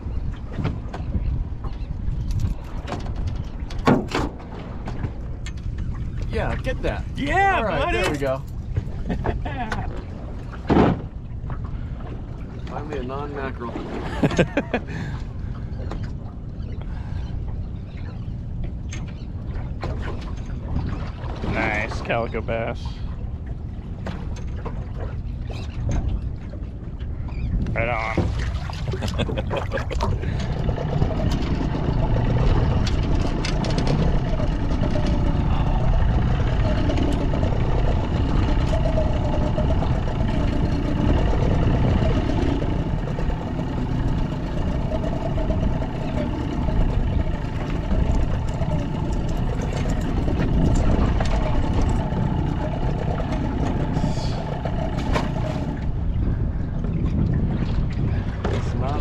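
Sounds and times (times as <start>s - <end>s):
wind and water rumble: 0.0s - 59.0s.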